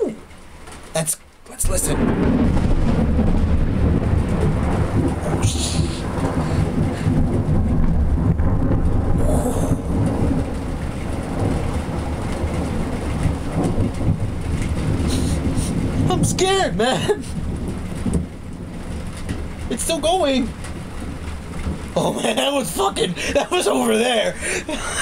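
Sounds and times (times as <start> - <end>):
deep roll of thunder: 1.6 - 25.0.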